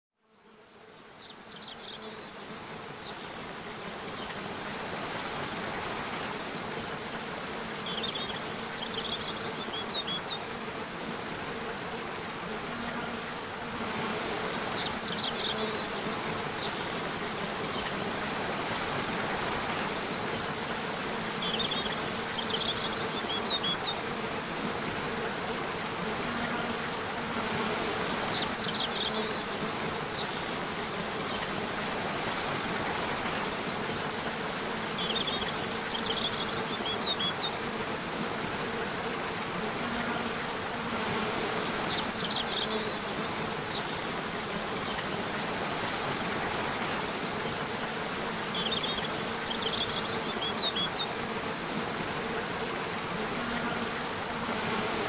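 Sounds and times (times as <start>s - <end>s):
faint steady buzz: 0.2s - 55.0s
running water: 2.6s - 55.0s.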